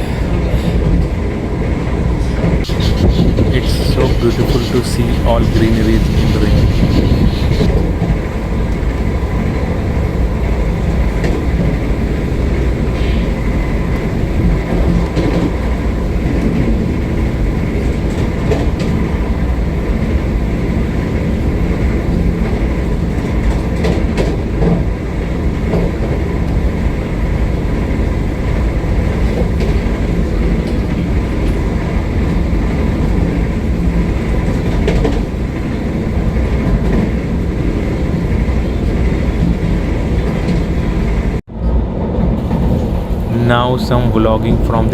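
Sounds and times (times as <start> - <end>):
train wheels rumbling: 0.0 - 44.9.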